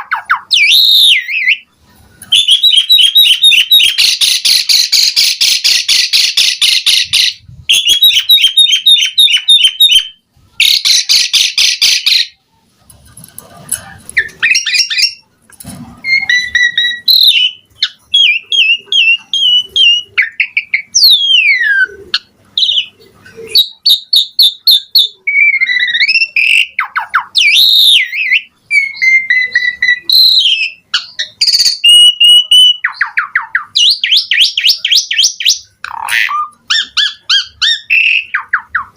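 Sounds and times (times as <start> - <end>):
starling singing: 0.0 - 12.5, 13.5 - 15.4, 16.0 - 38.9.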